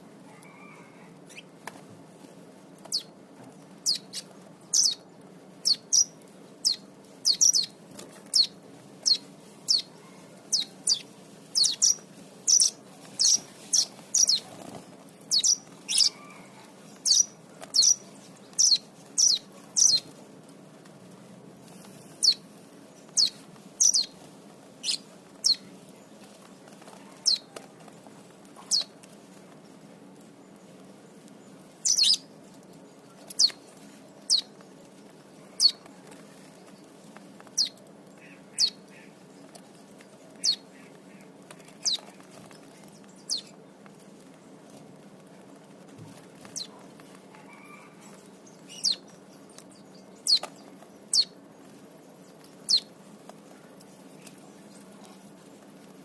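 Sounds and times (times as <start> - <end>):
lovebirds chirping: 0.2 - 1.6, 2.8 - 20.2, 21.6 - 44.8, 46.4 - 55.7.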